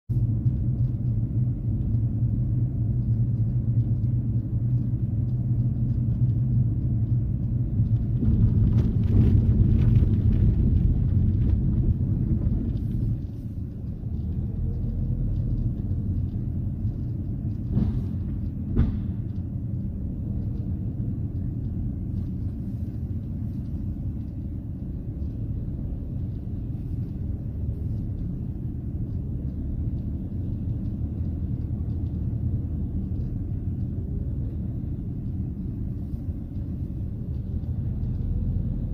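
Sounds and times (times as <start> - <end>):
car road rumble: 0.1 - 38.9.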